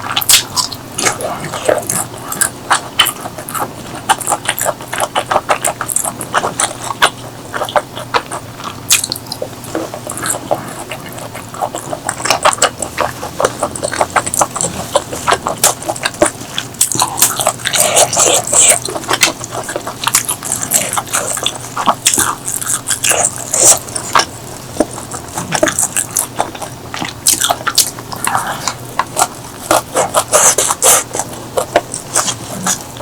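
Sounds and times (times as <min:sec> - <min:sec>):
chewing and wet mouth clicks: 0:00.0 - 0:33.0.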